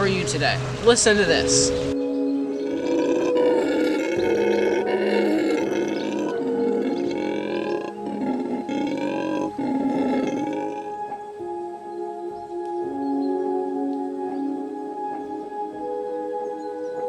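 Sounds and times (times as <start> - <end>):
howler monkey howling: 2.5 - 17.0.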